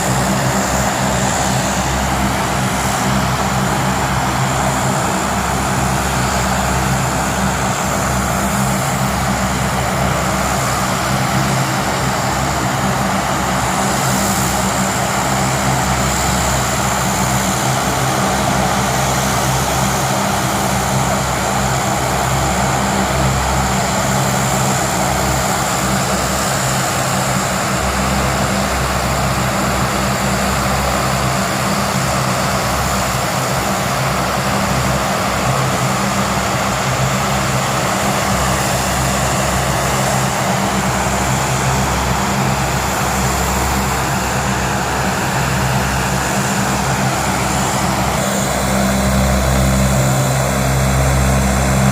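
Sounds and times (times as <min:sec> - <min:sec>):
aircraft engines humming: 0:00.0 - 0:51.9.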